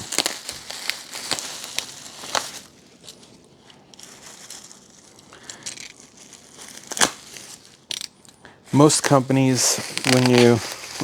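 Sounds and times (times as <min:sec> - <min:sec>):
packing peanuts crunching: 0:00.0 - 0:11.0.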